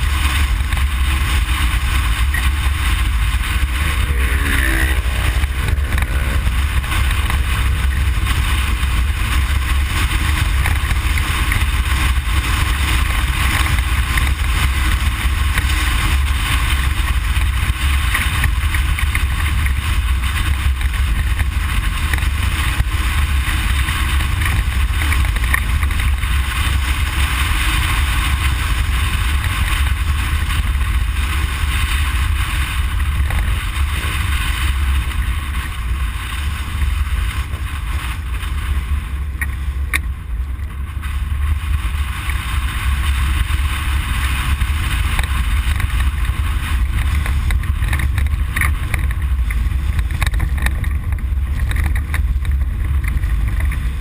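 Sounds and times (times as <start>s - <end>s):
engine and rough ground rumble: 0.0s - 54.0s
wind hiss: 0.0s - 54.0s.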